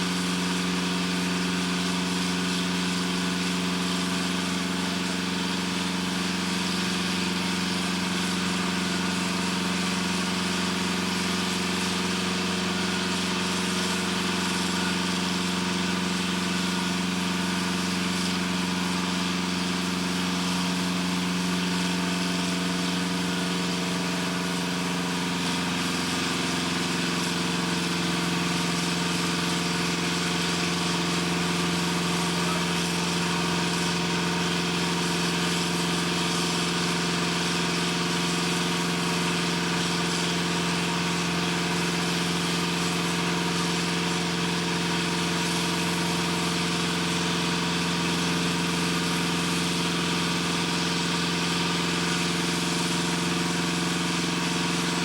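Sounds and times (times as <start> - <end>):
heavy machinery droning: 0.0 - 55.0.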